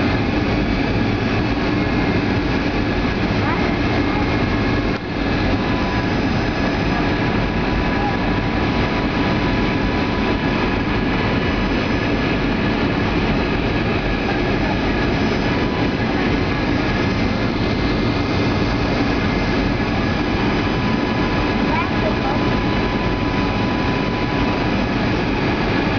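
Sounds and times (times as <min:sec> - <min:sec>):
airliner engine and airflow rush: 0:00.0 - 0:25.9.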